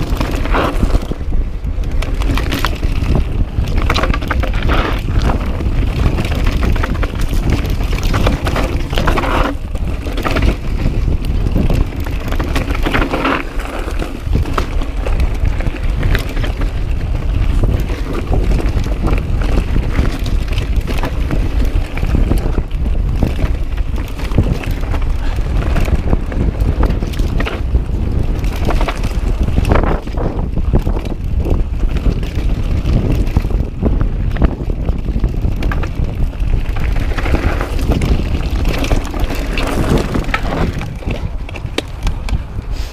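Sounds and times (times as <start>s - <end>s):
bike rattling on rocky trail: 0.0s - 42.9s
wind buffeting microphone: 0.0s - 42.9s.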